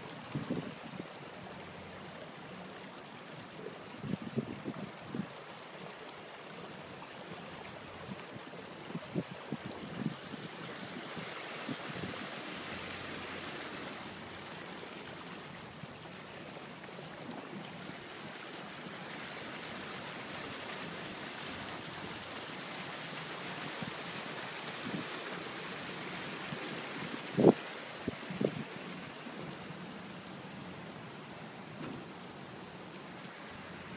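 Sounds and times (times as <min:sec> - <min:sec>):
water rushing along hull: 0:00.0 - 0:33.9.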